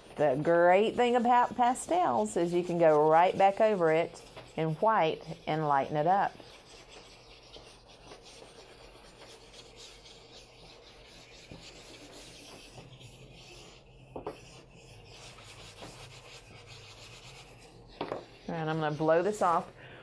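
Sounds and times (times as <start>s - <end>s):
stick rubbing on paper: 0.0s - 19.7s.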